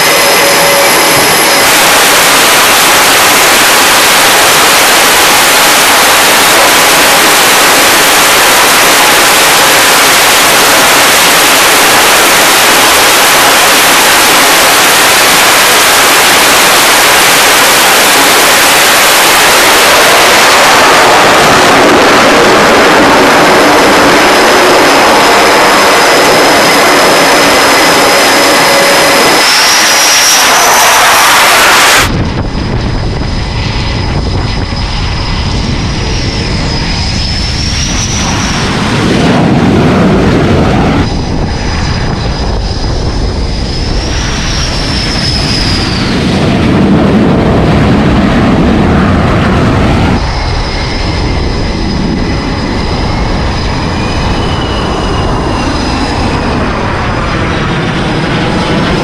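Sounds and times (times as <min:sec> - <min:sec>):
jet engines at high power: 0:00.0 - 0:59.0
short rising whine: 0:00.0 - 0:59.0.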